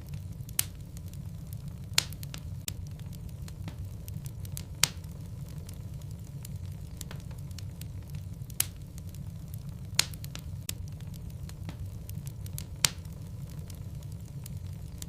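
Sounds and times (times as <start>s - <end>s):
low rumble of fire: 0.0s - 15.0s
wood logs crackling and popping: 0.0s - 15.0s.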